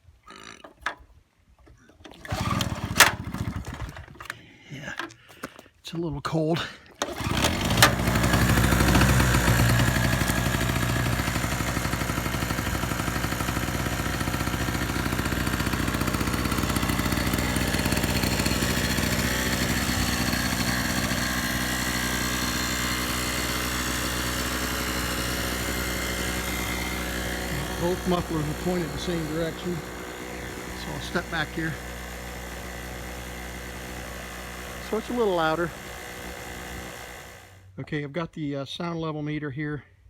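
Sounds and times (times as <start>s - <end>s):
generator engine running: 2.1s - 4.3s, 7.0s - 37.7s.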